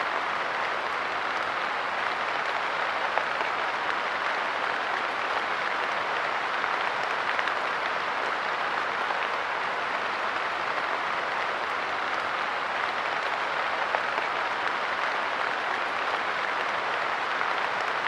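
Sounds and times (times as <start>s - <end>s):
light rain pattering on a bench: 0.0s - 18.0s.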